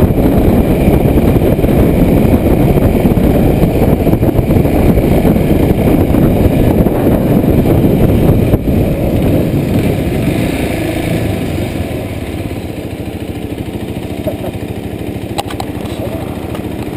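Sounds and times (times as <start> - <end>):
wind rush: 0.0 - 13.9
motorcycle engine running: 0.0 - 16.9.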